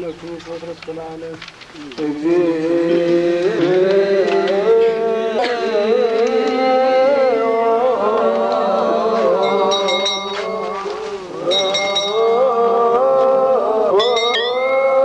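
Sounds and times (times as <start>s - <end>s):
voices chanting a hymn: 0.0s - 15.0s.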